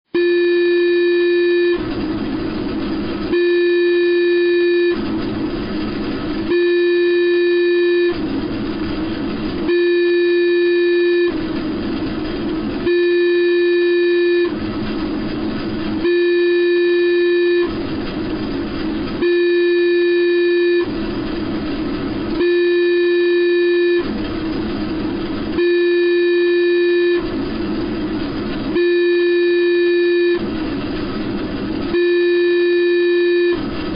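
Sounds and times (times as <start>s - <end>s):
synthesized steady tone: 0.1s - 14.8s, 15.6s - 24.2s, 24.9s - 33.9s.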